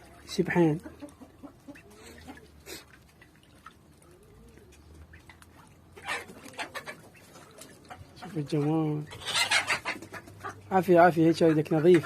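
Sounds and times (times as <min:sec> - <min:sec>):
birds splashing in water: 0:00.0 - 0:12.0.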